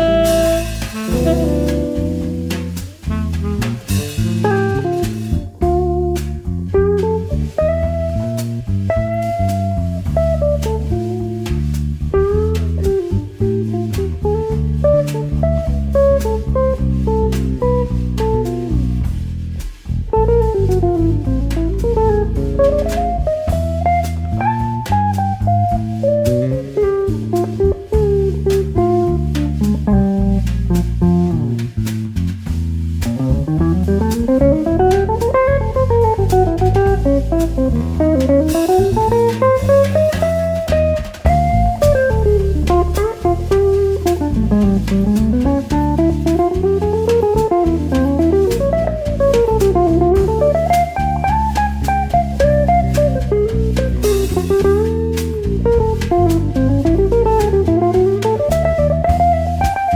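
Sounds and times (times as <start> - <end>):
drum kit with cymbals: 0.0 - 59.9
electric bass notes: 0.0 - 59.9.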